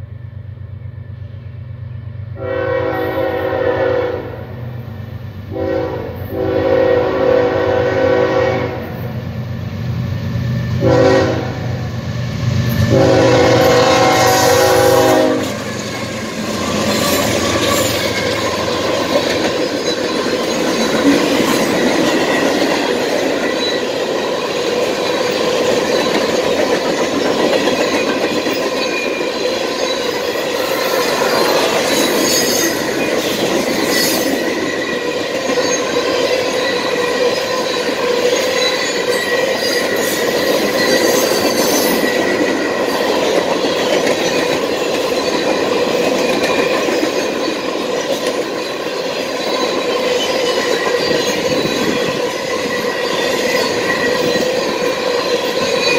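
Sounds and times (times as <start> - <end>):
steel wheels on rail: 0.0 - 55.9.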